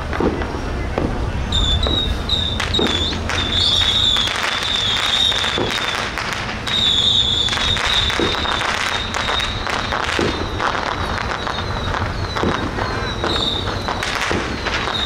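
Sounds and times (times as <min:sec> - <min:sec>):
firecrackers popping: 0:00.0 - 0:15.0
high wavering whistle: 0:01.5 - 0:15.0.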